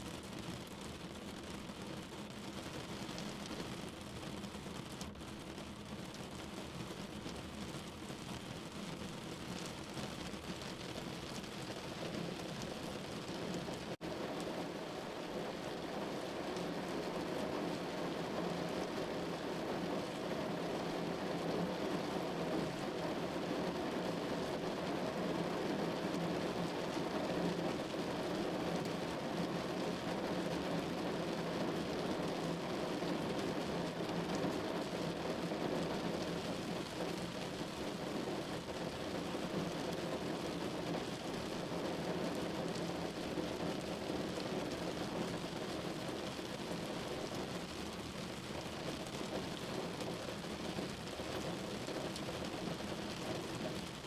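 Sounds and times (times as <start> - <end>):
rain on a window: 0.0 - 54.0.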